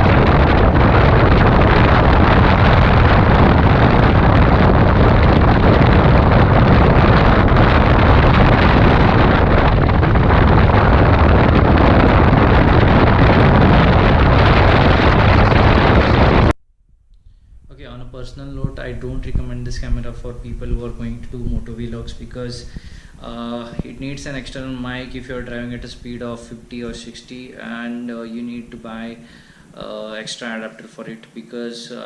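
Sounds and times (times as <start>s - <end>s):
wind buffeting microphone: 0.0s - 16.6s, 17.3s - 27.5s.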